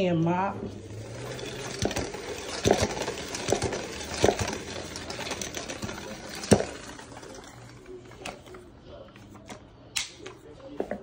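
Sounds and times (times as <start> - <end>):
spin mop whirring: 0.0 - 11.0.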